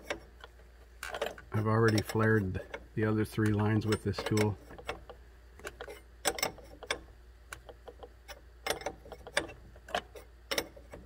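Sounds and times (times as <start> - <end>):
wrench clicking on metal: 1.0 - 11.0.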